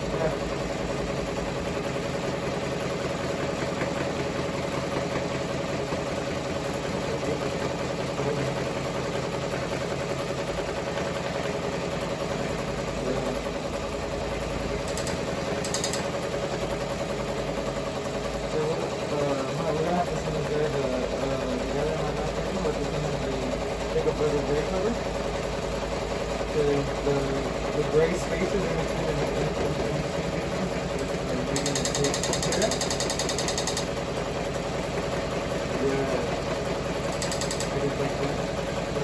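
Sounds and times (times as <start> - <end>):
embroidery machine stitching: 0.0 - 39.0.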